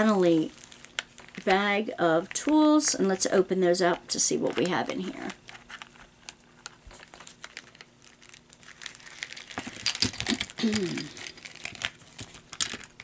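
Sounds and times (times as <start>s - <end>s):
plastic packaging crinkling: 0.0s - 3.4s, 4.4s - 13.0s.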